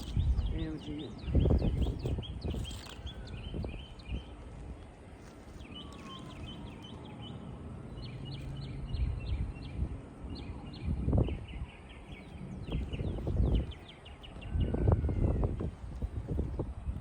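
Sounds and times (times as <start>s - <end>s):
low rumble of wind: 0.0s - 17.0s
small birds chirping: 0.0s - 17.0s.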